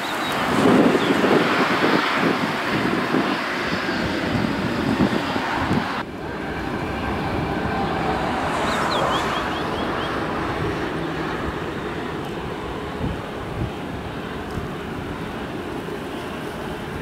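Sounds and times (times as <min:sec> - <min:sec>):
jet engine noise: 0:00.0 - 0:17.0
wind buffeting microphone: 0:00.0 - 0:17.0.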